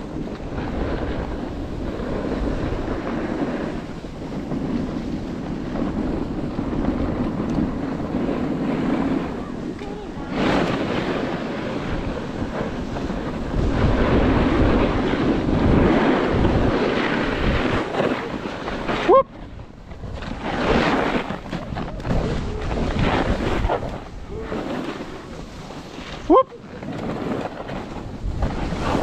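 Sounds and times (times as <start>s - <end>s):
snowboard scraping on snow: 0.0s - 29.0s
wind on microphone: 0.0s - 29.0s.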